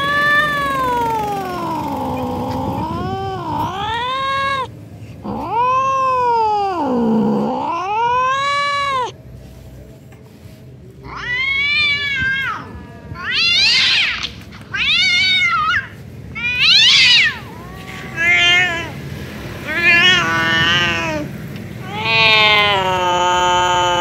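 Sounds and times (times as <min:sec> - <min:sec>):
cat meowing: 0:00.0 - 0:09.2, 0:11.0 - 0:19.0, 0:19.6 - 0:24.0.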